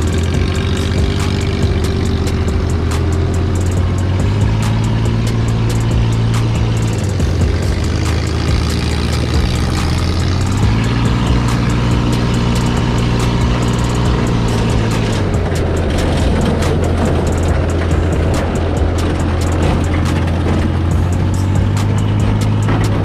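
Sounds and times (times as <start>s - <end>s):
buggy engine running: 0.0s - 23.0s
rattling: 0.0s - 23.0s.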